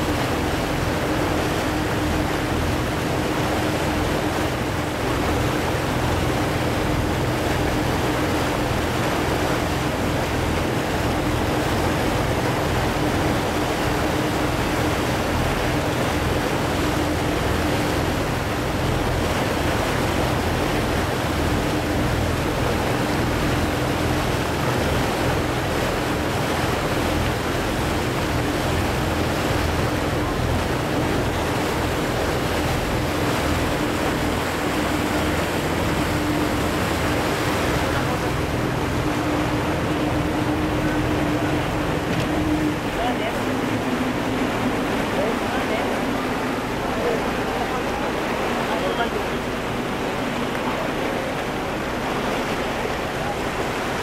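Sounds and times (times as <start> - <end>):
motorboat engine drone: 0.0 - 54.0
water rushing along hull: 0.0 - 54.0.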